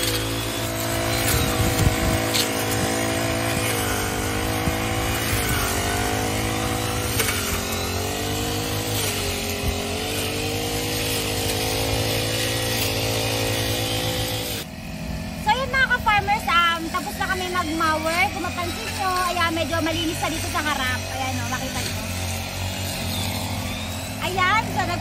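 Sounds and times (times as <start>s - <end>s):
brush cutters cutting grass: 0.0s - 25.0s.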